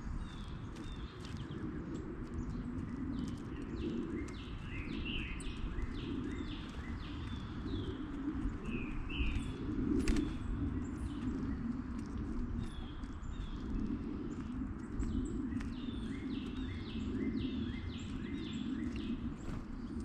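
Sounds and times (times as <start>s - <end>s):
low outdoor rumble: 0.0s - 20.0s
songbird chirping: 0.0s - 20.0s.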